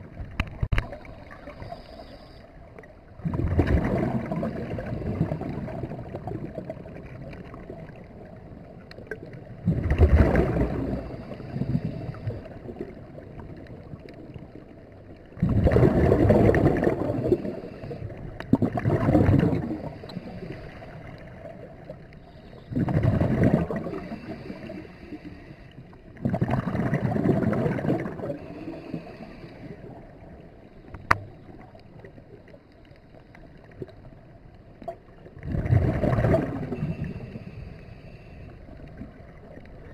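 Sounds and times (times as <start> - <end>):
exhaled bubbles rumbling underwater: 0.0 - 39.9.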